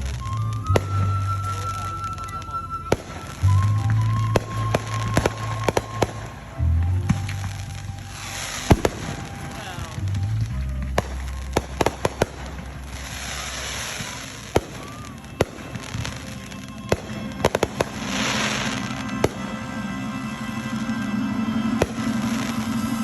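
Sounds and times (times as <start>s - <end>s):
fireworks bangs: 0.0s - 23.0s
fireworks hissing crackle: 0.0s - 23.0s.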